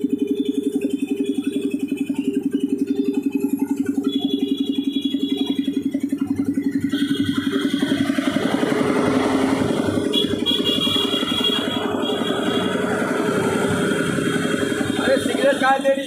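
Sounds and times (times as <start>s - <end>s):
air compressor chugging: 0.0s - 16.0s.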